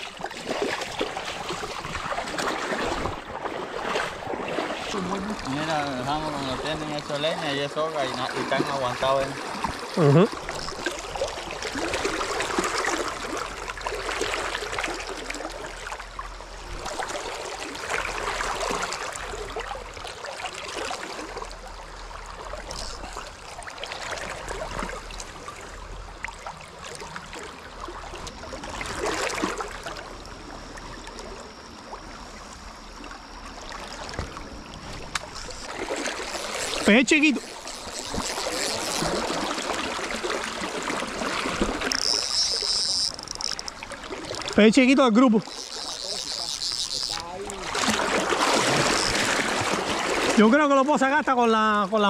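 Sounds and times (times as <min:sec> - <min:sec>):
river current rushing and lapping: 0:00.0 - 0:52.0.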